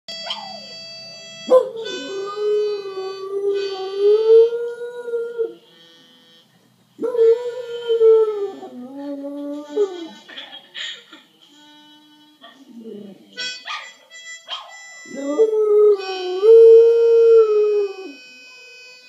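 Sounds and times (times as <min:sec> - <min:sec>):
harmonica music: 0:00.1 - 0:10.3, 0:11.2 - 0:19.0.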